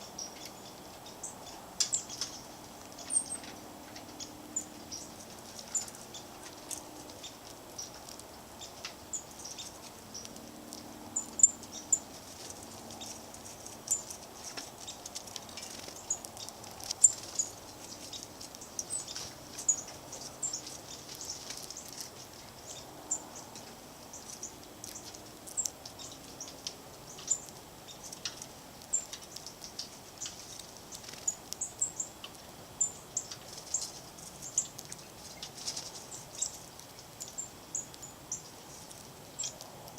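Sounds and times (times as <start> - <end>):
faint outdoor background: 0.0 - 39.9
songbirds chirping: 0.0 - 39.9.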